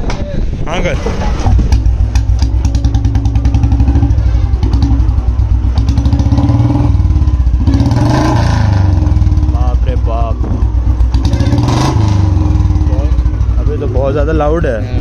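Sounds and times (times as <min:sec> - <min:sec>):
motorcycle engine idling: 0:01.6 - 0:15.0
engine revving: 0:01.7 - 0:15.0.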